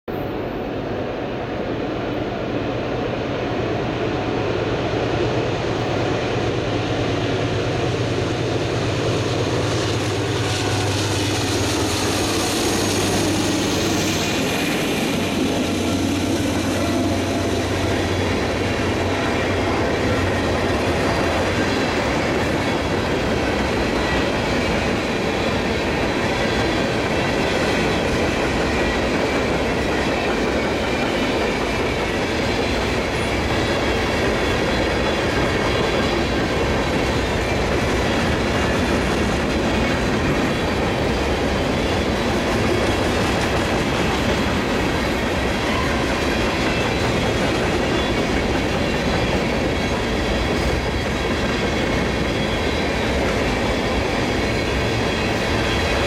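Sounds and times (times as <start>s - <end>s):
diesel locomotive engines: 0.1s - 56.0s.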